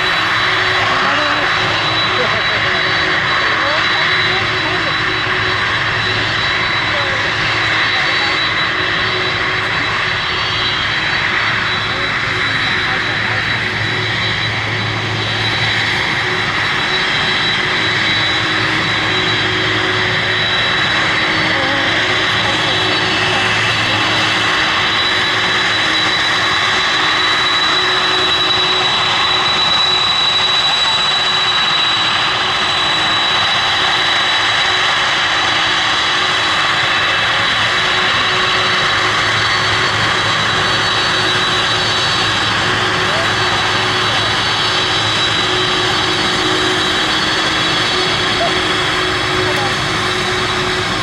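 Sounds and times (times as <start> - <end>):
high engine whine: 0.0 - 51.0
jet engines running: 0.0 - 51.0.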